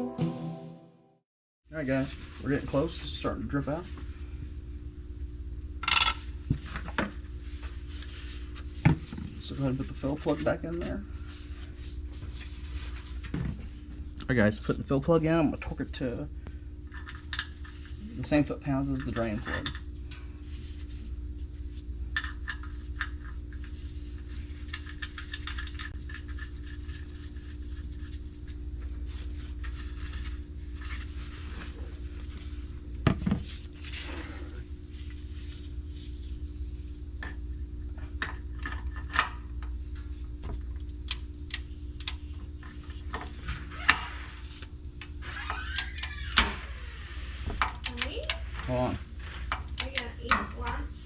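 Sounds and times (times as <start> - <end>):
steady low hum: 1.7 - 45.3.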